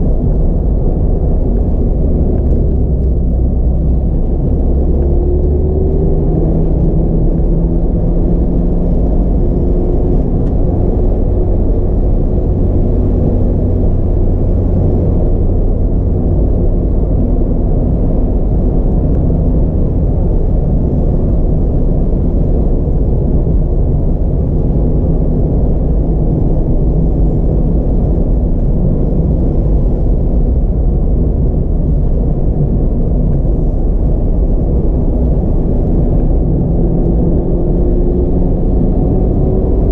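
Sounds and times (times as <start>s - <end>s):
car engine rumble inside cabin: 0.0s - 39.9s.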